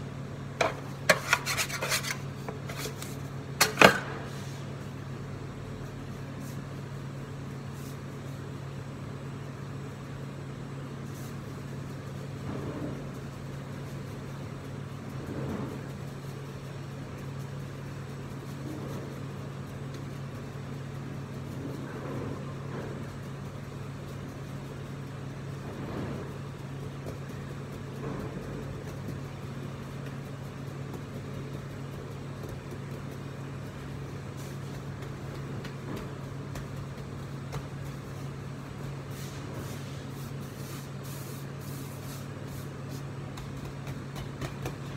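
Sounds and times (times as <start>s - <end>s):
kitchen machinery humming: 0.0s - 44.9s.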